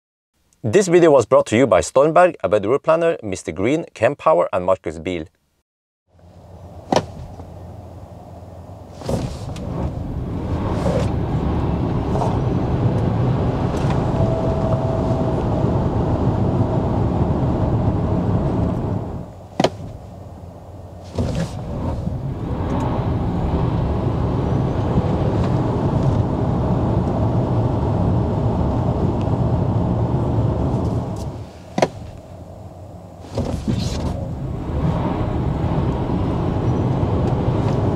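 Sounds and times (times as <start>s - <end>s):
road and tyre rumble: 6.1s - 37.9s.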